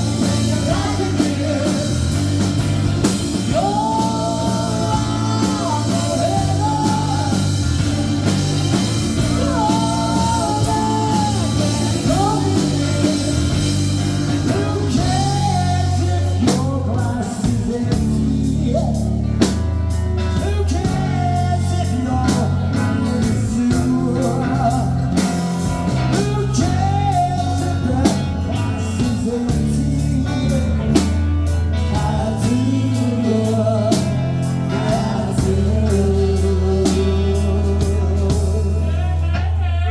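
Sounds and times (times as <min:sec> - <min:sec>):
bass: 0:00.0 - 0:39.9
guitar: 0:00.0 - 0:39.9
lead singer: 0:00.0 - 0:39.9
steady drum beat: 0:00.0 - 0:39.9.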